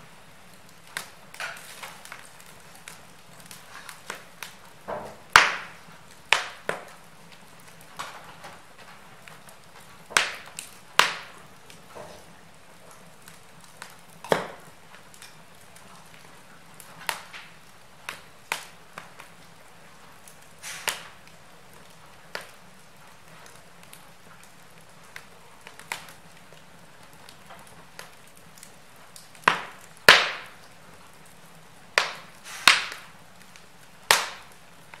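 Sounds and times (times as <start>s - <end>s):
faint steady hiss: 0.0s - 35.0s
log fire crackling and popping: 0.0s - 35.0s.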